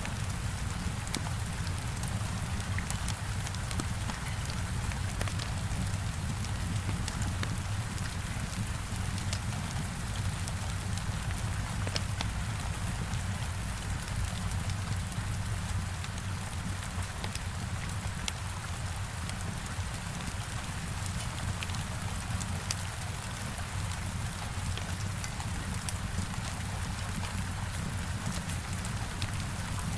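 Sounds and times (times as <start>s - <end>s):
heavy rain on a window: 0.0s - 29.9s
wood fire crackling: 0.0s - 29.9s.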